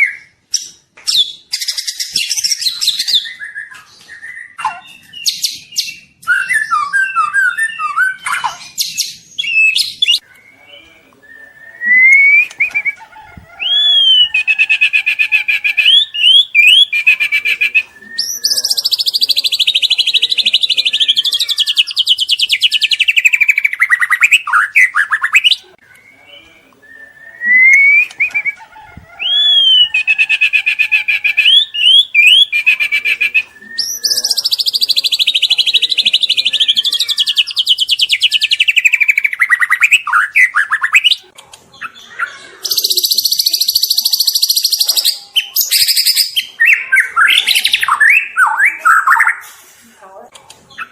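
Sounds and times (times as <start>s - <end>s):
bird singing whistles and trills: 1.1s - 13.0s, 13.6s - 28.6s, 29.2s - 41.2s, 42.7s - 49.4s.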